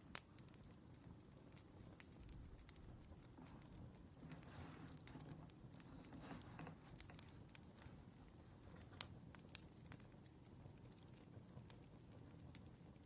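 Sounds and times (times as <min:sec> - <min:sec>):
wood fire crackling: 0:00.0 - 0:13.0
soft rustle: 0:00.4 - 0:13.0.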